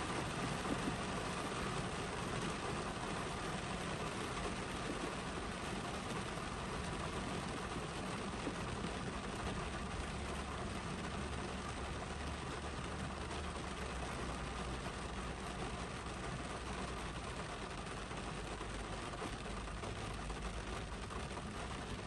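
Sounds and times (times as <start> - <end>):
rain on car roof: 0.0 - 22.0.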